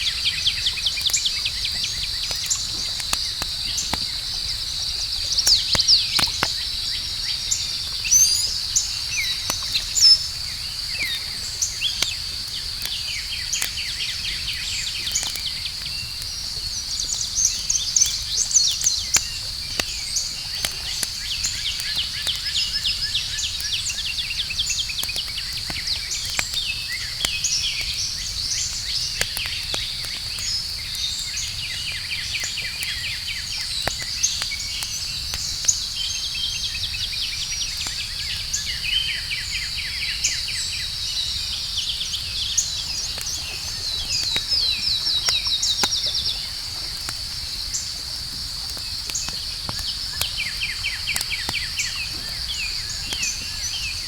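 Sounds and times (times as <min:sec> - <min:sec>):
campfire crackling: 0:00.0 - 0:54.0
insect chorus: 0:00.0 - 0:54.0.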